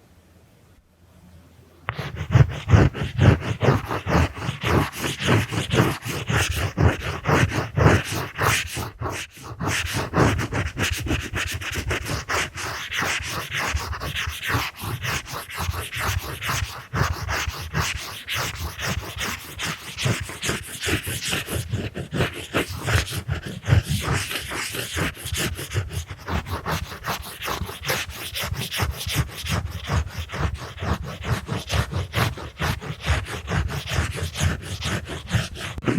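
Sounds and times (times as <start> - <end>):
drawing tool scratching microphone: 1.9 - 35.9.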